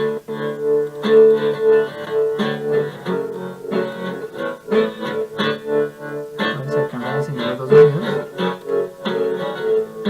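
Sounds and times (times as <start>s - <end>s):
pulsing instrumental music with effects: 0.0s - 10.0s.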